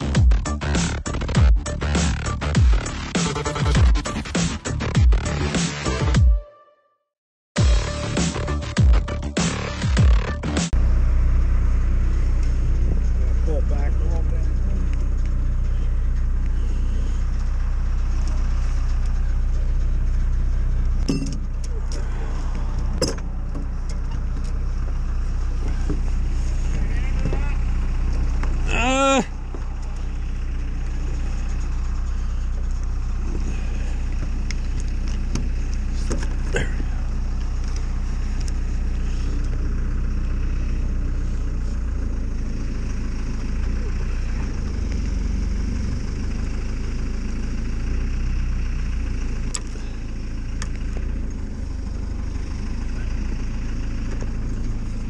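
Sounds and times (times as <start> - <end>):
diesel engine running: 0.0 - 6.2, 7.6 - 55.0.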